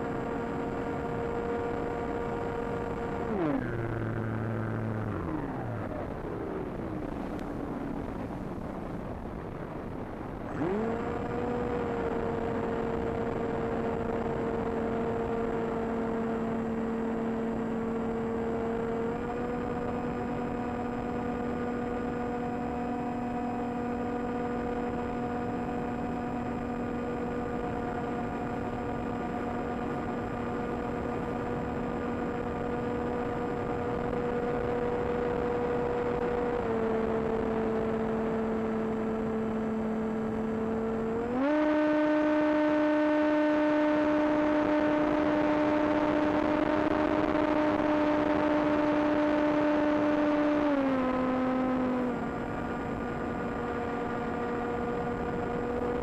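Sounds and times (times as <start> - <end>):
electric motor and propeller humming: 0.0 - 8.4, 10.5 - 56.0.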